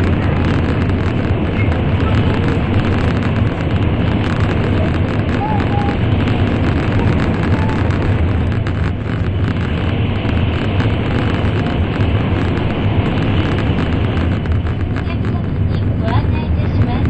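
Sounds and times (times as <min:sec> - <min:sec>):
train rumbling in tunnel: 0:00.0 - 0:17.0.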